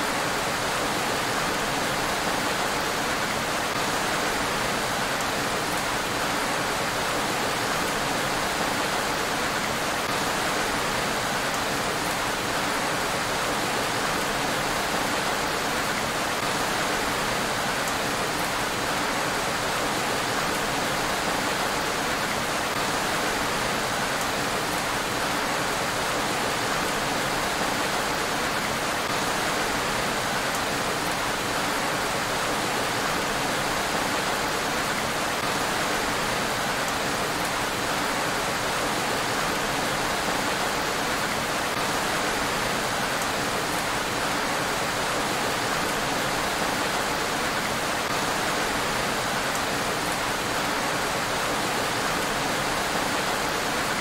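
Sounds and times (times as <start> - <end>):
rain falling on a road: 0.0 - 54.0.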